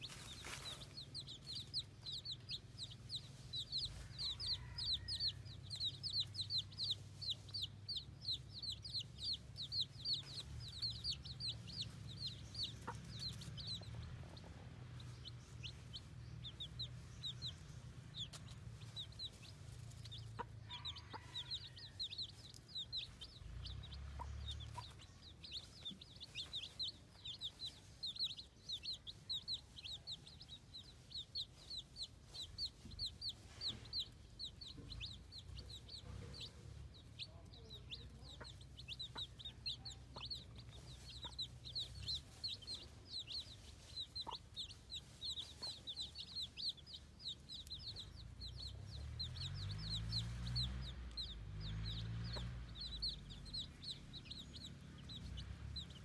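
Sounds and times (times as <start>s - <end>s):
baby chicks peeping: 0.0s - 56.0s.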